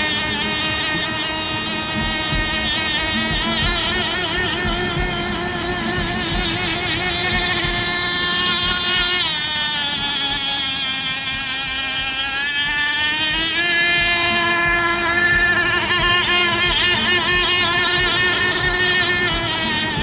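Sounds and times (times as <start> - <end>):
model boat engine whining: 0.0 - 20.0.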